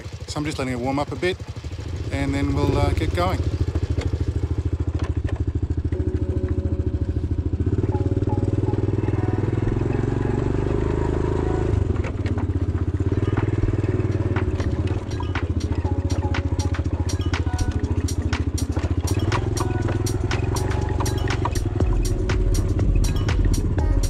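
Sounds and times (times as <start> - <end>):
motorbike engine running: 0.0 - 24.0.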